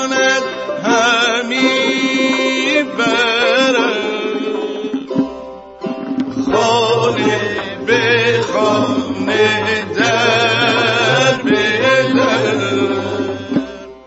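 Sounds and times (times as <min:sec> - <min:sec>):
person singing with vibrato: 0:00.0 - 0:05.2, 0:06.3 - 0:14.0.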